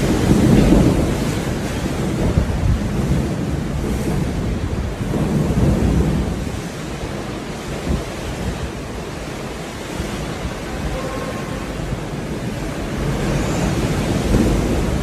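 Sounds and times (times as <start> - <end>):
hurricane wind: 0.0 - 15.0
water rushing: 0.0 - 15.0
wind buffeting microphone: 0.0 - 15.0.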